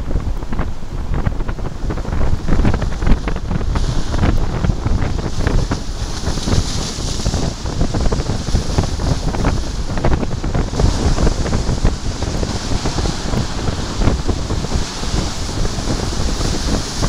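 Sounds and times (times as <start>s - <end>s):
gusty wind buffeting microphone: 0.0s - 17.0s
heavy surf breaking: 0.0s - 17.0s.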